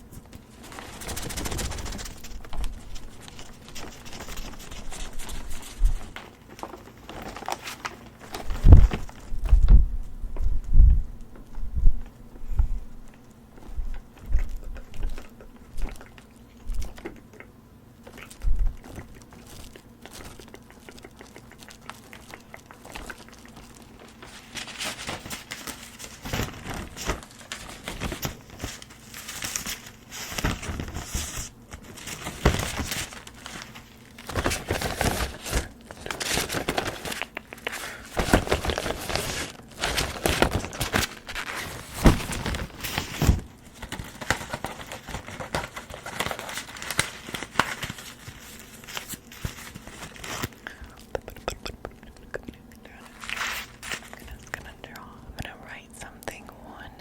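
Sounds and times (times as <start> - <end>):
crinkling and rustling: 0.0 - 17.2, 18.0 - 55.6.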